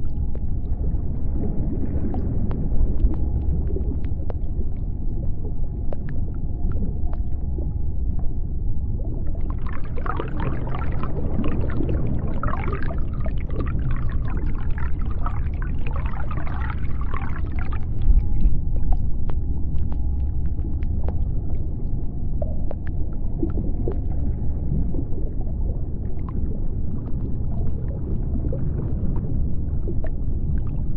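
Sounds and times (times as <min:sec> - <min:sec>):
deep underwater rumble: 0:00.0 - 0:30.9.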